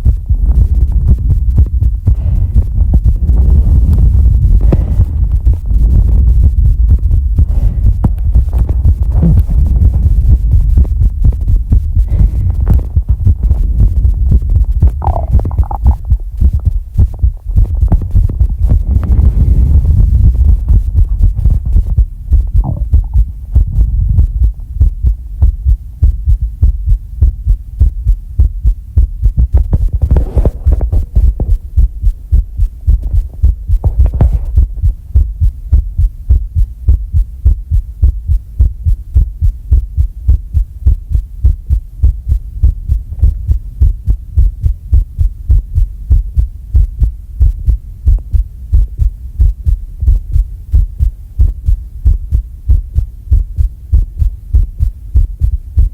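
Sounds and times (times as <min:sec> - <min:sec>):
heartbeat thumping: 0:00.0 - 0:55.9.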